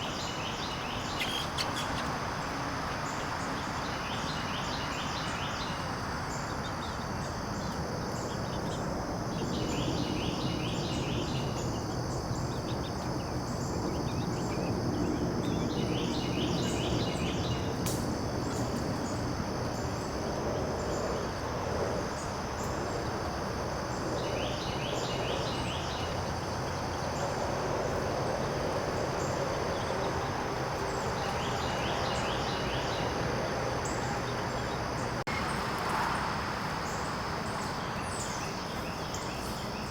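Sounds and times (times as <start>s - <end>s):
high insect drone: 0.0s - 39.9s
songbird singing: 0.0s - 39.9s.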